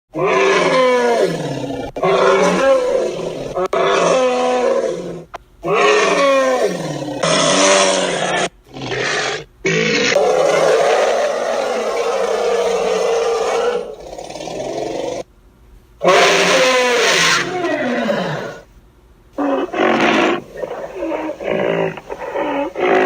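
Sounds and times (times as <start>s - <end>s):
loud low animal calls: 0.1s - 15.3s, 16.0s - 18.7s, 19.4s - 23.0s.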